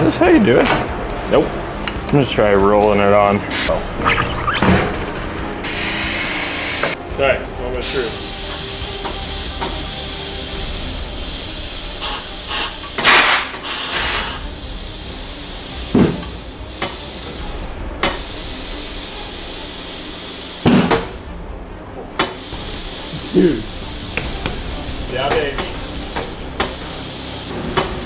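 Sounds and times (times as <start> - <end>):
compressed air hissing: 3.4 - 7.0, 7.8 - 28.0.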